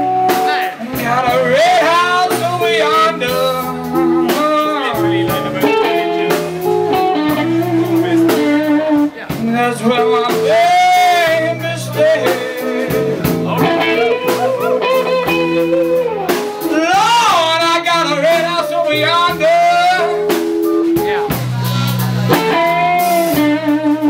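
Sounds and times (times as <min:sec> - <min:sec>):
electric guitar playing blues: 0:00.0 - 0:24.0
man singing: 0:00.1 - 0:24.0.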